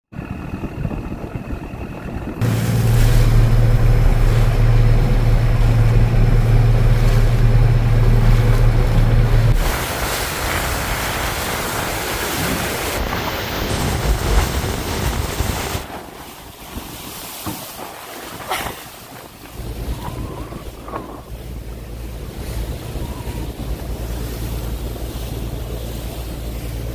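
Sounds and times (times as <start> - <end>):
boat engine droning: 0.1 - 26.9
wind buffeting microphone: 0.1 - 26.9
water rushing and splashing: 2.4 - 26.9.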